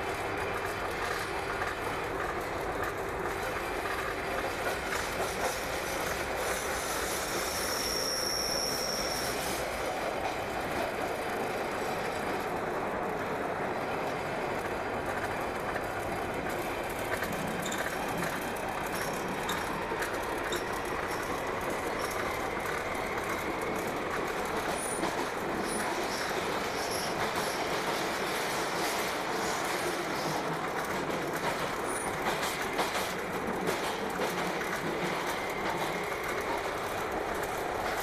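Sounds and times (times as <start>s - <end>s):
train rumbling through tunnel: 0.0s - 38.0s.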